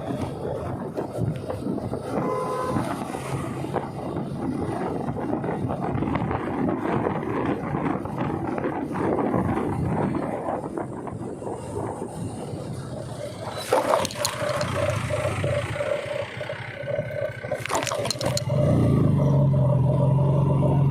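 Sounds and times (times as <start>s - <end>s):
motorcycle engine and road noise: 0.0s - 20.9s
wind buffeting microphone: 0.0s - 20.9s.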